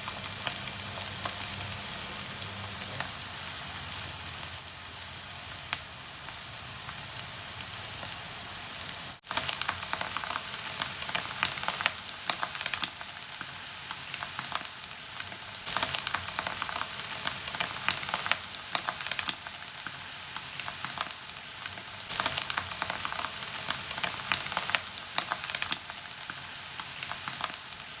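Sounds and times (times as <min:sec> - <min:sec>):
egg sizzling in oil: 0:00.0 - 0:28.0.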